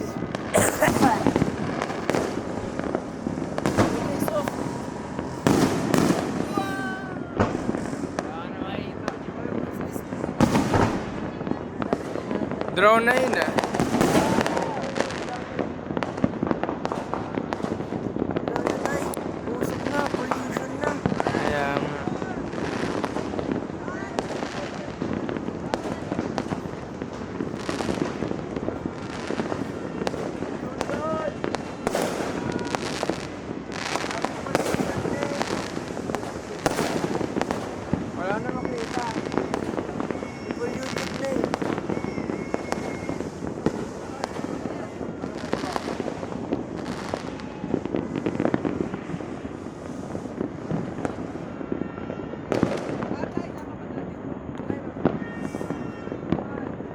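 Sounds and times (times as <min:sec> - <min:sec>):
fireworks crackling: 0:00.0 - 0:56.9
sharp firework bangs: 0:00.0 - 0:56.9.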